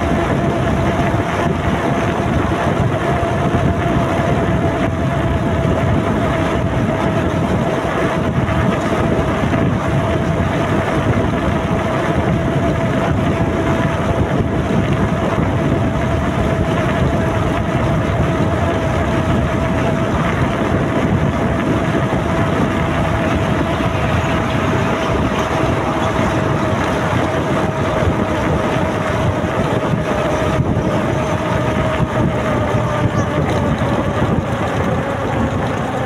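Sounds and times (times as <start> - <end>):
motorcycle engine cruising: 0.0 - 36.0
steady whine: 0.0 - 36.0
wind rushing on microphone: 0.0 - 36.0.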